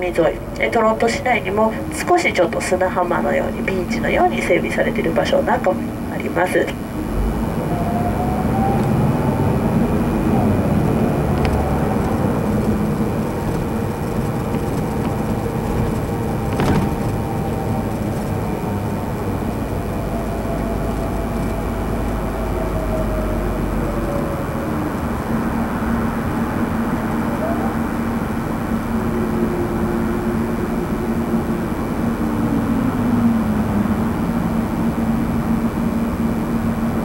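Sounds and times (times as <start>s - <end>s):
bus engine and road rumble: 0.0s - 37.0s
faint drifting whine: 0.0s - 37.0s.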